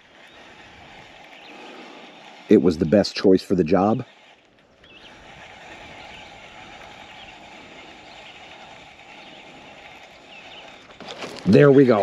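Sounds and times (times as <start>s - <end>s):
fishing reel whirring: 0.0s - 12.0s.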